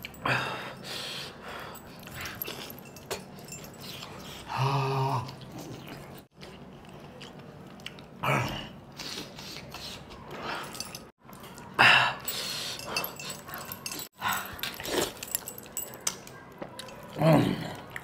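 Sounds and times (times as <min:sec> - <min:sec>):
mouth and eating noises: 0:02.0 - 0:08.2, 0:08.9 - 0:11.8, 0:12.5 - 0:18.0.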